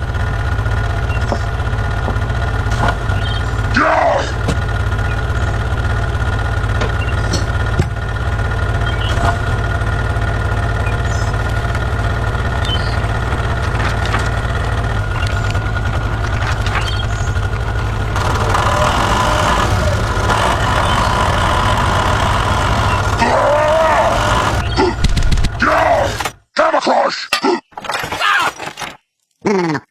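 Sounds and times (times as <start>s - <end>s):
heavy vehicle engine rumbling: 0.0s - 26.4s.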